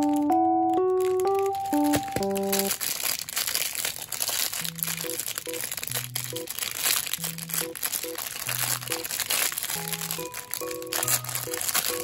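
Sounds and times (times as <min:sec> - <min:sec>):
soft background music: 0:00.0 - 0:02.8, 0:04.4 - 0:12.0
plastic packaging crinkling: 0:00.0 - 0:12.0.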